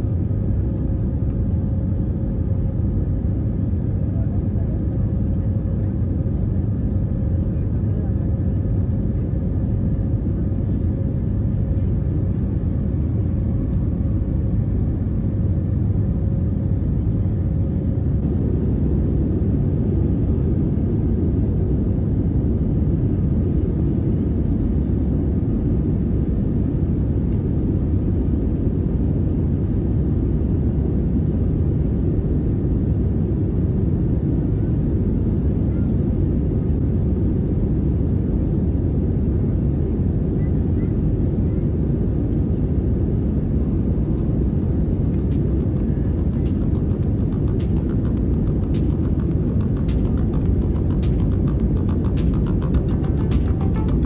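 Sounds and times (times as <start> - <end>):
airplane engine rumble in cabin: 0.0 - 54.0.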